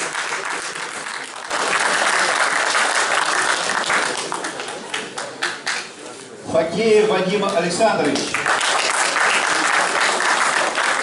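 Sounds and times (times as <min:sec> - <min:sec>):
audience applauding: 0:00.0 - 0:05.9, 0:08.1 - 0:11.0.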